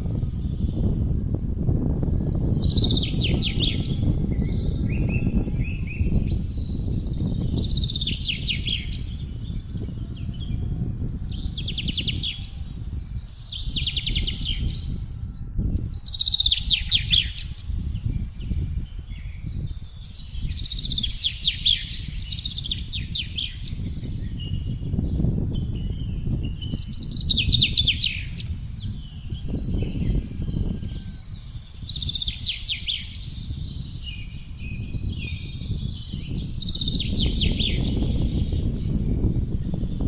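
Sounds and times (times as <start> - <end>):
songbirds trilling: 0.0 - 40.0
wind rumbling on microphone: 0.0 - 40.0.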